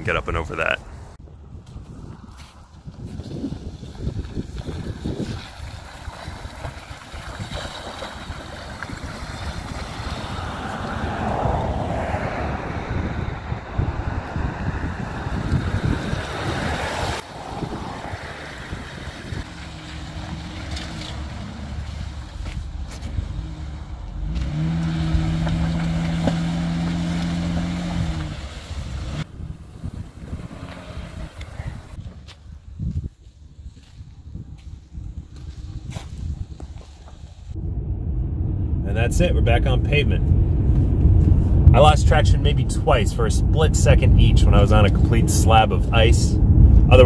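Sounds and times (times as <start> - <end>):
wind rumbling on microphone: 0.8 - 47.0.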